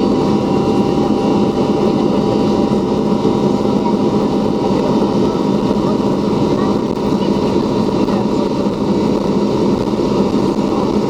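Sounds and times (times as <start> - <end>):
jet engine rush in cabin: 0.0 - 11.0
steady engine hums: 0.0 - 11.0.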